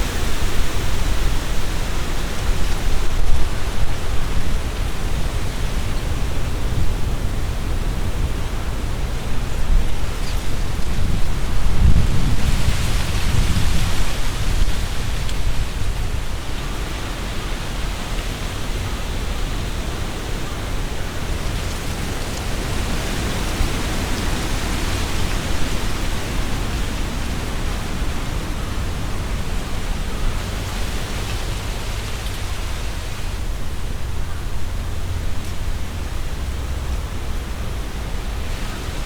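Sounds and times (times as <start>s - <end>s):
leaves rustling: 0.0s - 39.0s
wind gusting through trees: 0.0s - 39.0s.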